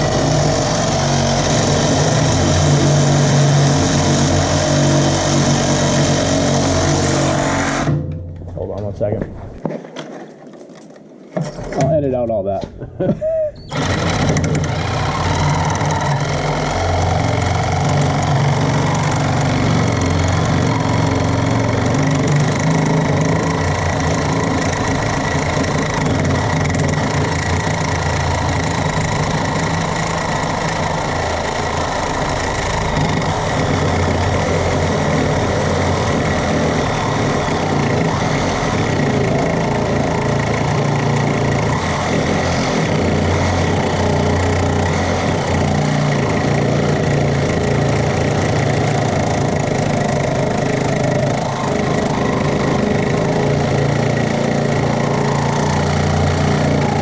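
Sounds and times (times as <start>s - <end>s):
reciprocating saw cutting steel: 0.0s - 8.1s, 13.6s - 57.0s.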